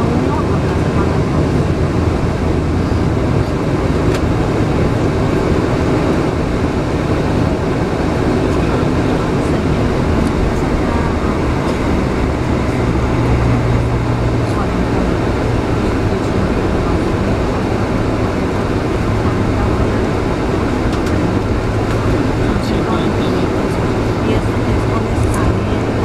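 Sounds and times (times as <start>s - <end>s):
jet engines at takeoff thrust: 0.0s - 26.0s
low steady hum: 0.0s - 26.0s.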